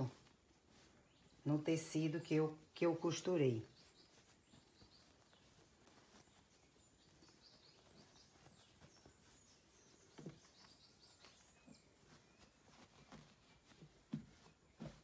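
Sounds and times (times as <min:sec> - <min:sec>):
faint distant bird chirps: 0:00.0 - 0:15.0.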